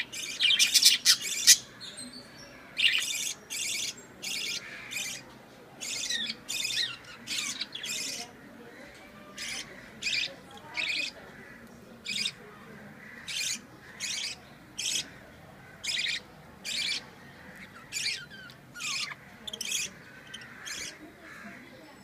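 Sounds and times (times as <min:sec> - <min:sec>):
budgerigars chirping harshly: 0:00.0 - 0:08.4, 0:09.3 - 0:21.6.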